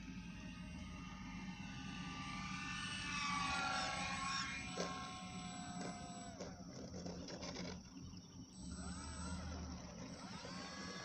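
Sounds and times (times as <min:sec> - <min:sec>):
model airplane motor: 0:00.0 - 0:11.0.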